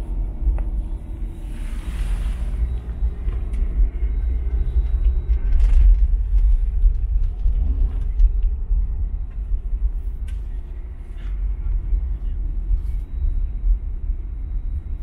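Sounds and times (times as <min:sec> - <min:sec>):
car engine and tyres on snow: 0:00.0 - 0:15.0.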